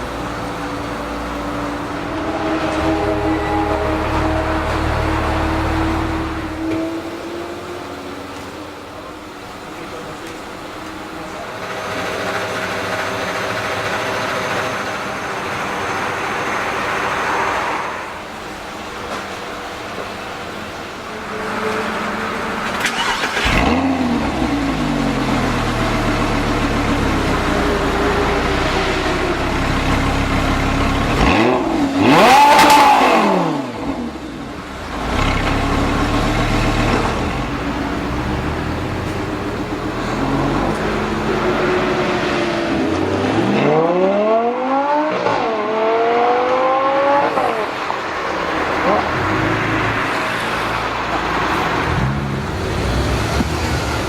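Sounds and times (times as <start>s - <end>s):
sports car engine revving: 0.0s - 9.1s, 19.6s - 54.0s.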